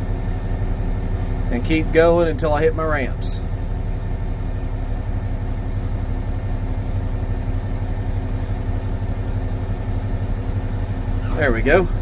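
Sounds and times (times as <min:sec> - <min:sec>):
dump truck diesel engine: 0:00.0 - 0:12.0.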